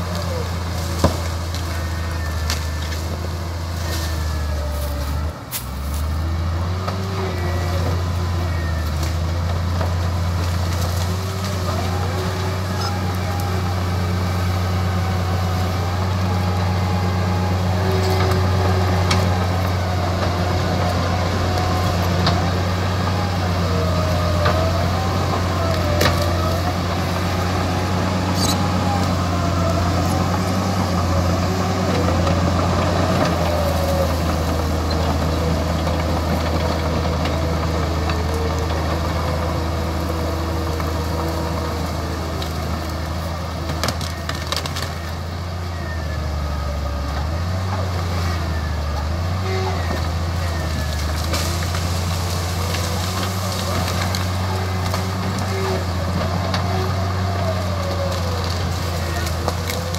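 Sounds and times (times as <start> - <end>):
bulldozer diesel engine under load: 0.0 - 59.9.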